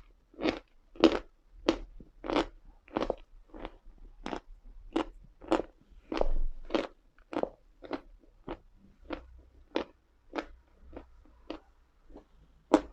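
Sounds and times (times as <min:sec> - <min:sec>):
chalk being chewed: 0:00.4 - 0:12.9.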